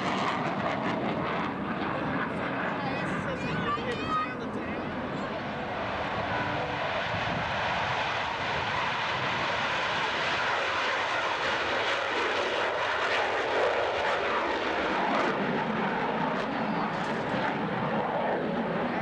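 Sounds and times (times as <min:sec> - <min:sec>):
fighter jet roaring past: 0:00.0 - 0:19.0.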